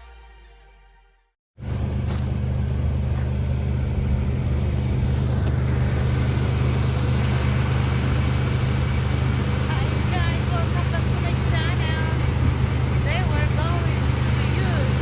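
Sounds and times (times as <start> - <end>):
combine harvester engine running: 1.6 - 15.0.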